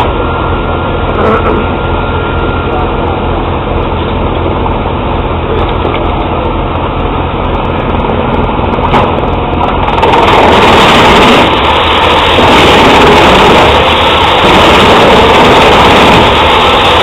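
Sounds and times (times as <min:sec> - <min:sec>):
wood chipper running: 0:00.0 - 0:17.0.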